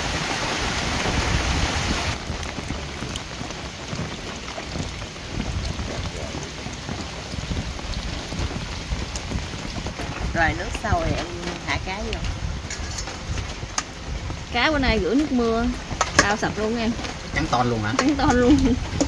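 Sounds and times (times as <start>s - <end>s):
rain falling on water: 0.0s - 19.0s
rain on a metal roof: 0.0s - 19.0s.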